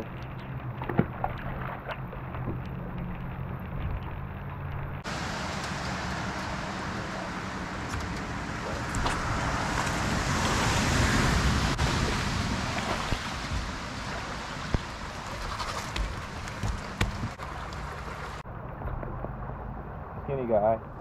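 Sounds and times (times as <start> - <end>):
wind and rain rushing: 0.0 - 20.2.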